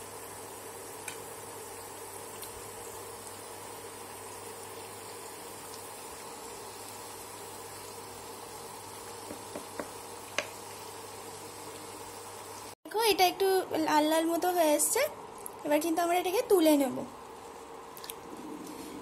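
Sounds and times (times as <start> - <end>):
food deep-frying in hot oil: 0.0 - 19.0.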